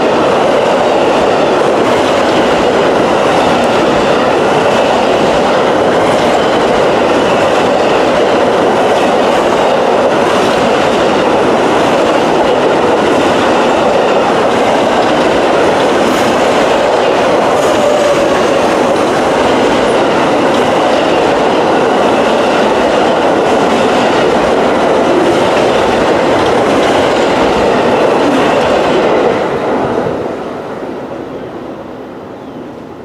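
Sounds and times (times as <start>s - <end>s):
passenger train rolling past: 0.0s - 33.0s
train wheels clicking over rail joints: 0.1s - 30.0s.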